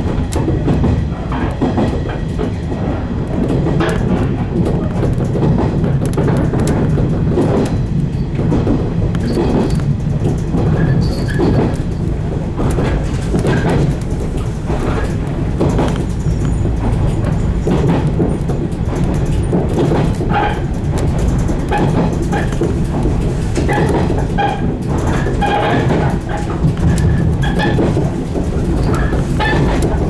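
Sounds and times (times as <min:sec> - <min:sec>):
track clicks and knocks: 0:00.0 - 0:30.0
train wheels rumbling: 0:00.0 - 0:30.0.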